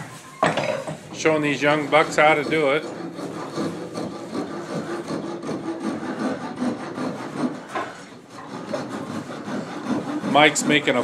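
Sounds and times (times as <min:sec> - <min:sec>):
steel scraping on wood: 0:00.0 - 0:11.0.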